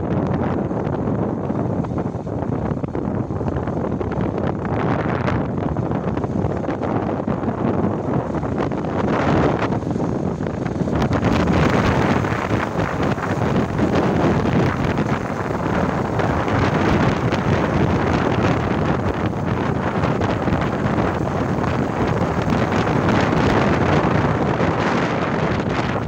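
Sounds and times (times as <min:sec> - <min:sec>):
wind buffeting a microphone: 0:00.0 - 0:26.0.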